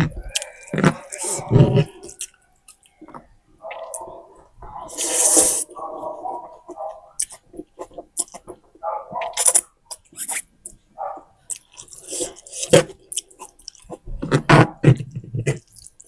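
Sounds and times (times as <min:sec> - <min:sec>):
mouth chewing noodles: 0:00.0 - 0:16.0.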